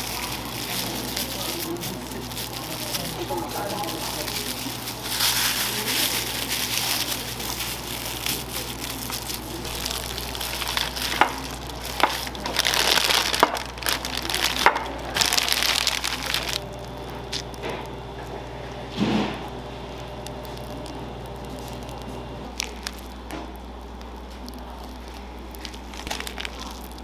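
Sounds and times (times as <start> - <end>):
plastic bag crinkling: 0.0 - 27.0.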